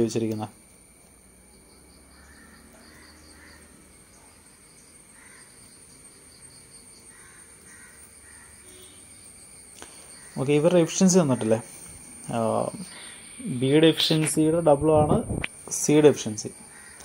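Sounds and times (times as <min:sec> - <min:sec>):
insects chirping: 0:00.0 - 0:17.0
distant bird calls: 0:01.6 - 0:15.6, 0:16.5 - 0:17.0.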